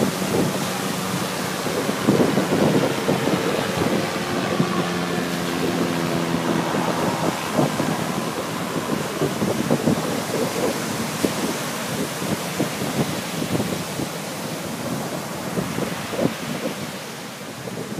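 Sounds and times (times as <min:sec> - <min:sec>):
ocean surf washing ashore: 0:00.0 - 0:17.9
wind buffeting microphone: 0:00.0 - 0:17.9.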